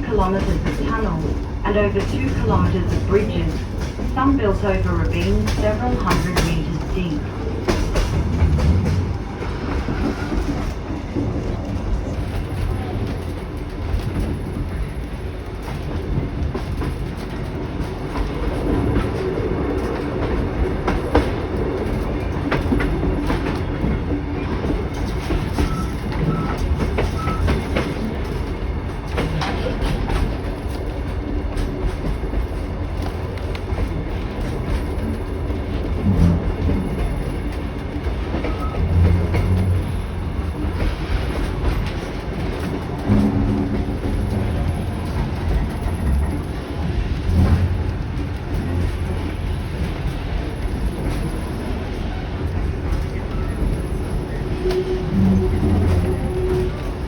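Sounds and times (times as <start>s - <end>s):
train carriages rumbling: 0.0s - 57.0s
wheels clicking over rail joints: 7.5s - 57.0s.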